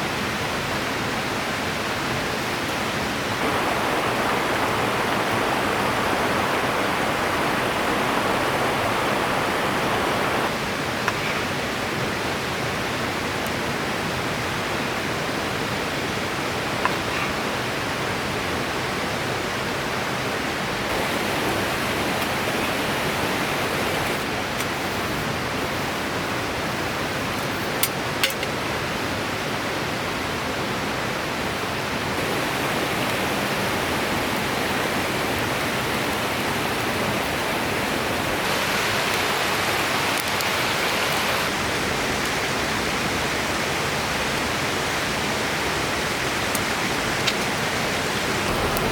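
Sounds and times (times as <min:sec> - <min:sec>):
river rushing: 0:00.0 - 0:27.4, 0:28.0 - 0:48.9.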